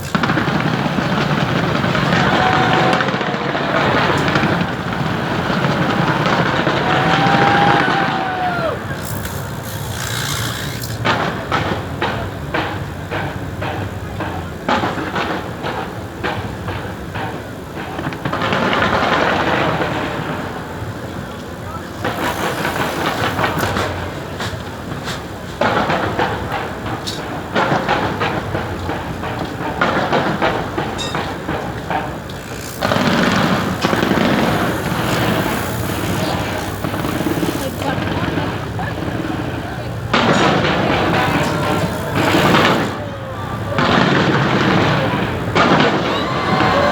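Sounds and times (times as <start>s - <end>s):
high crackling hiss: 0.0s - 11.8s, 15.0s - 46.9s
fireworks bangs: 0.0s - 46.9s.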